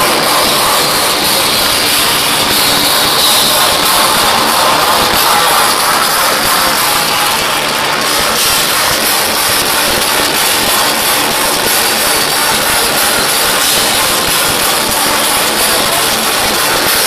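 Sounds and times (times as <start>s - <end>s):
metal band playing live: 0.0s - 17.0s.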